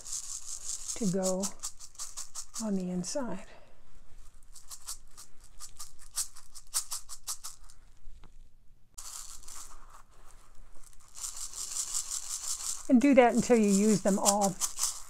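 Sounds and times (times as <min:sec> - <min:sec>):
beads pouring through funnel: 0:00.0 - 0:03.2, 0:04.2 - 0:07.8, 0:09.0 - 0:15.0
plastic beads rattling: 0:00.0 - 0:03.2, 0:04.2 - 0:07.8, 0:09.0 - 0:15.0.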